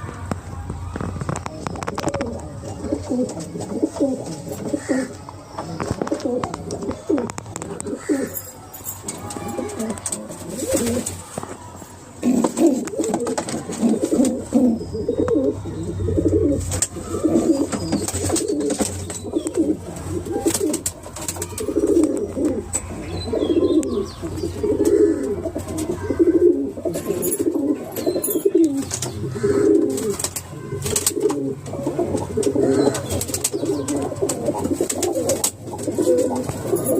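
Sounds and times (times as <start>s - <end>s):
pigeons cooing: 1.2s - 8.4s, 9.4s - 11.4s, 12.2s - 36.9s.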